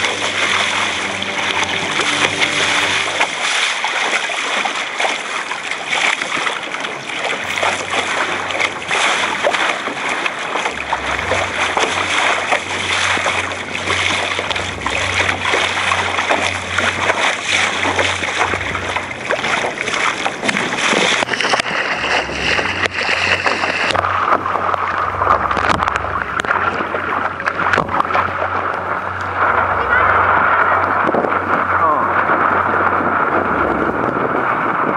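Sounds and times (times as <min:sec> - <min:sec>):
water splashing against boat: 0:00.0 - 0:34.9
wind rumble on microphone: 0:00.0 - 0:34.9.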